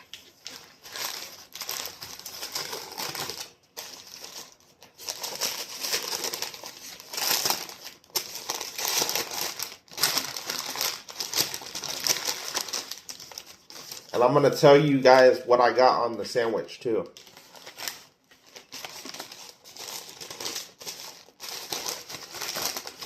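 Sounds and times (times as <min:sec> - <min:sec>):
wrapping crinkling and rustling: 0:00.0 - 0:14.8, 0:17.1 - 0:23.0.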